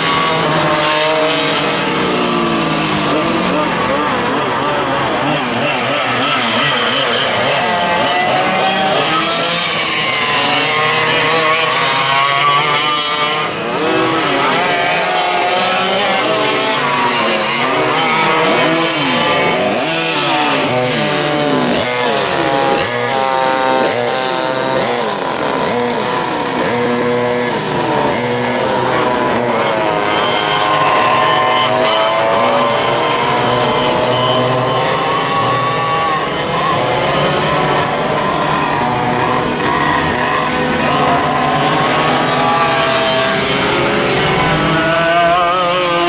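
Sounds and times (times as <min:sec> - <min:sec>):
kart engines at high revs: 0:00.0 - 0:46.0.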